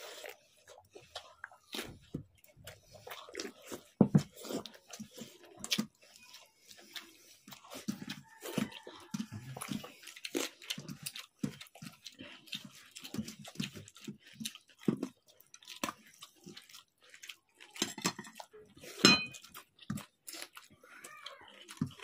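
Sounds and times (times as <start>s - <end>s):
slurping: 0.0s - 17.8s
wet chewing and smacking: 0.0s - 22.0s.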